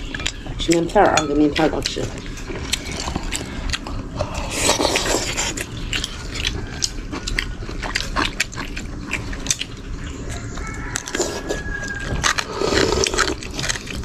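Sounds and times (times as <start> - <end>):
scraping and slurping: 1.0 - 14.0.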